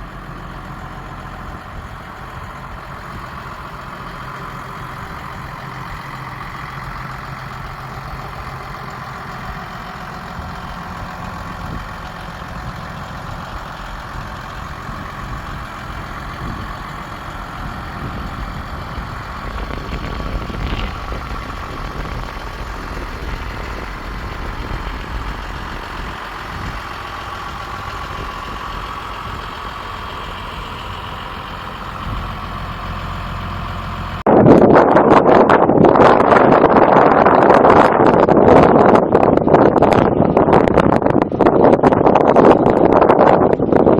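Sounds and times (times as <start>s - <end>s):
tractor diesel engine idling: 0.0s - 43.9s
wind hitting microphone: 0.0s - 43.9s.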